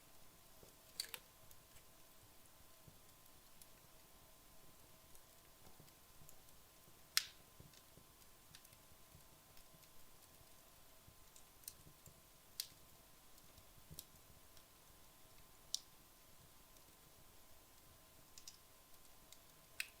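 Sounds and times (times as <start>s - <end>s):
faint background hiss: 0.0s - 20.0s
wood fire crackling and popping: 0.1s - 20.0s.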